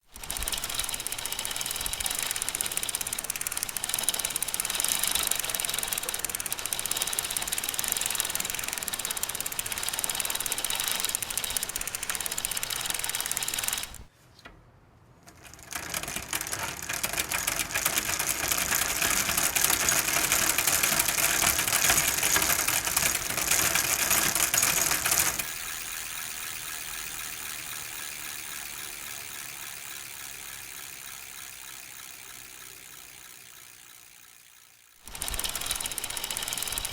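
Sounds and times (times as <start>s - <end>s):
bicycle chain and gears rattling: 0.0s - 14.1s, 15.3s - 36.9s.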